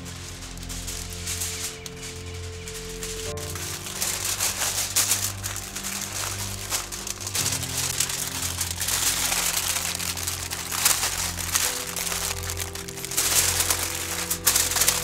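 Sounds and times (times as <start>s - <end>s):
foil and paper crinkling: 0.0s - 15.0s
soft background music: 0.0s - 15.0s.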